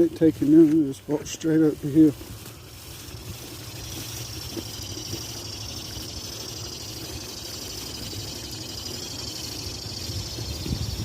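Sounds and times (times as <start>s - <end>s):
insects chorus pulsing: 0.0s - 11.0s.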